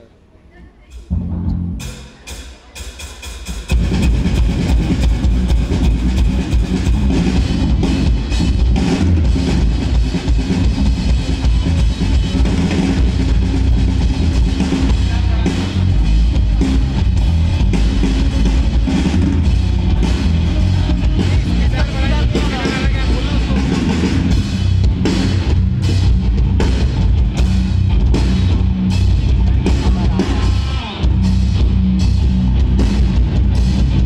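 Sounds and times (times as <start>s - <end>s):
live rock band playing: 0.9s - 34.0s.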